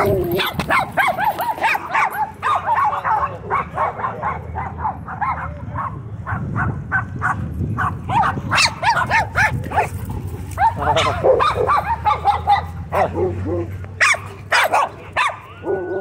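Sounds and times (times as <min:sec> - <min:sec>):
small dogs yapping: 0:00.0 - 0:16.0.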